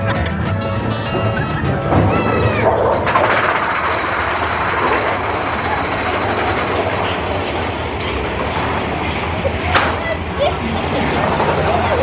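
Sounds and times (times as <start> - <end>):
roller coaster train rumbling on rails: 0.0 - 12.0.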